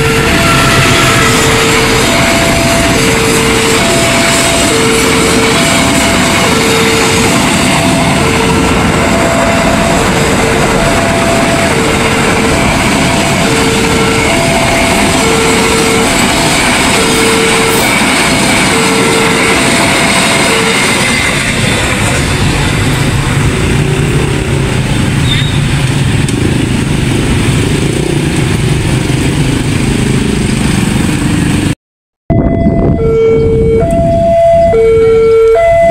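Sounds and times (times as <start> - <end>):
two-tone crossing alarm: 0.0 - 25.8, 32.3 - 35.9
train wheels rushing: 0.0 - 31.7.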